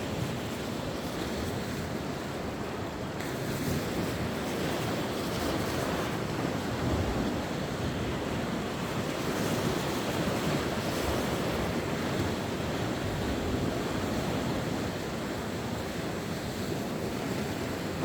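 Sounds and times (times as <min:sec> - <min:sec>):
sea waves washing onto shore: 0:00.0 - 0:18.0.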